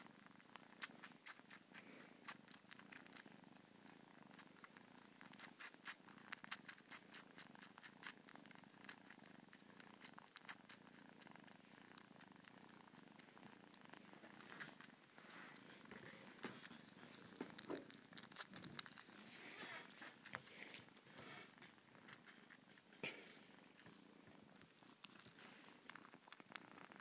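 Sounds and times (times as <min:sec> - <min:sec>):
kitten purring: 0:00.0 - 0:27.0.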